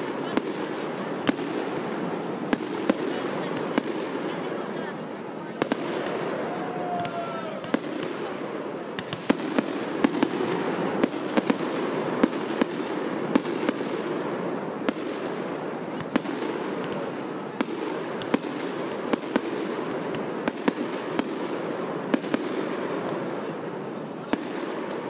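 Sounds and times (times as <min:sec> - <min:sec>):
fireworks bursting: 0:00.0 - 0:25.0
steady background noise: 0:00.0 - 0:25.0.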